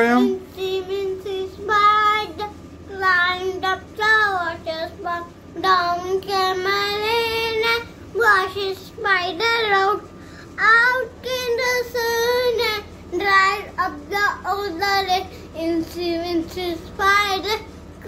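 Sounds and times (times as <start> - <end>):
girl singing in a high voice: 0.2 - 17.7.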